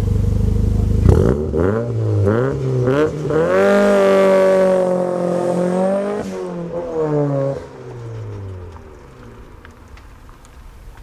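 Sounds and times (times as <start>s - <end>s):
turbocharged car engine accelerating: 0.0s - 9.6s.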